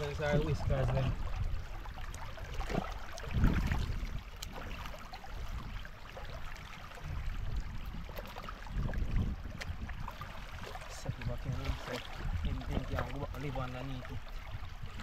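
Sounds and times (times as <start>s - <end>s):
stream water rippling over rocks: 0.0s - 15.0s.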